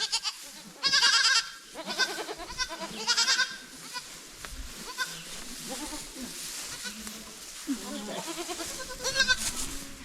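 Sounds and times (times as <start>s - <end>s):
goats bleating: 0.0s - 4.2s, 4.8s - 10.0s.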